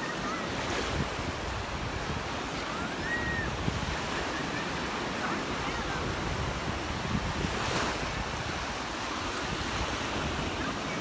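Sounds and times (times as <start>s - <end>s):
surf washing onto beach: 0.0s - 11.0s
wind buffeting microphone: 0.5s - 11.0s.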